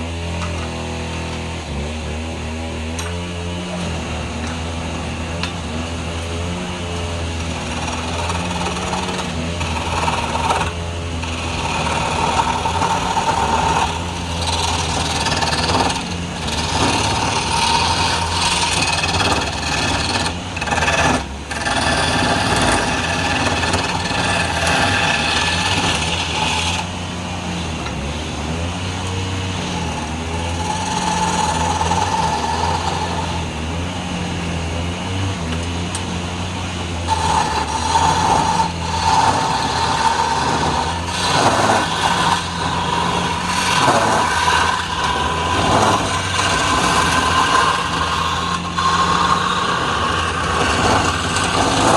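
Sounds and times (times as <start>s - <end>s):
tool scraping spinning wood: 2.8s - 51.9s
lathe motor hum: 3.8s - 34.8s, 36.8s - 51.9s.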